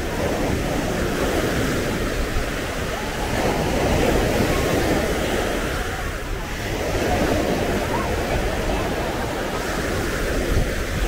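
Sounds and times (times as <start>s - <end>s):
sea waves breaking on a beach: 0.0s - 11.0s.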